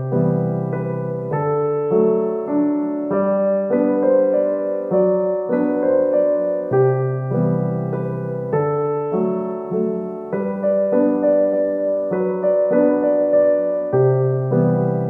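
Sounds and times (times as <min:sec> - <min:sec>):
background piano music: 0:00.0 - 0:15.0.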